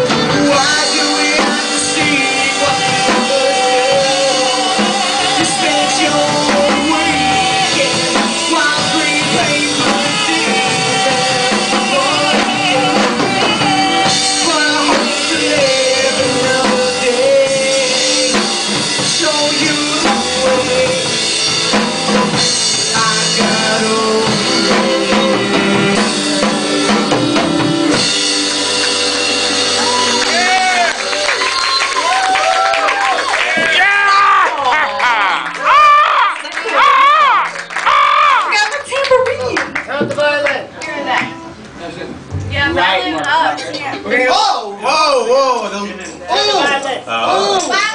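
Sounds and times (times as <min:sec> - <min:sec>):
drum kit beating: 0:00.0 - 0:34.3, 0:38.5 - 0:44.5
bass: 0:00.0 - 0:47.9.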